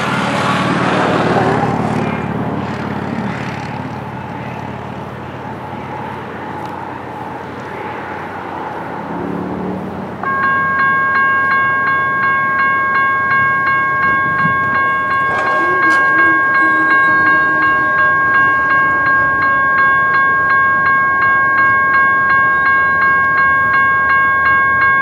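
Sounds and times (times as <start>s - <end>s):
crossing warning bell ringing: 0.0s - 25.0s
distant train rumble: 0.0s - 25.0s.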